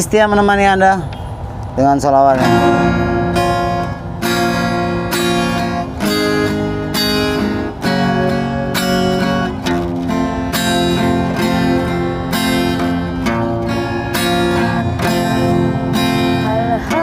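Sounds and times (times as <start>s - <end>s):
acoustic guitar strumming: 2.3s - 17.0s.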